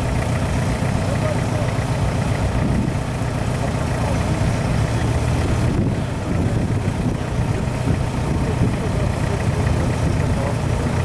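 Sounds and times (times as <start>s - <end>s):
vehicle engine running steadily: 0.0s - 11.0s.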